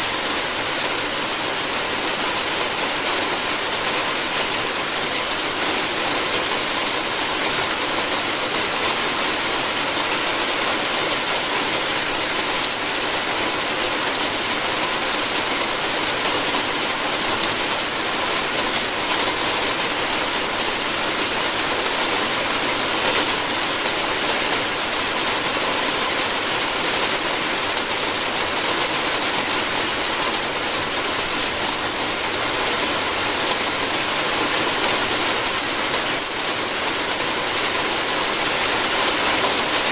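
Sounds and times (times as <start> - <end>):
heavy rain drumming on a roof: 0.0 - 39.9.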